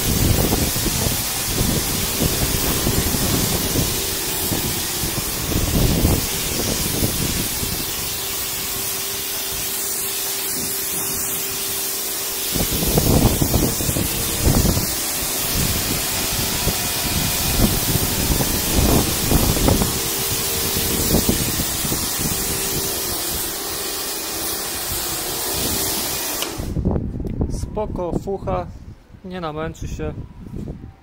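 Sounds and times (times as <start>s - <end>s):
pressure washer water jet hissing: 0.0s - 26.8s
steady hum: 0.0s - 27.1s.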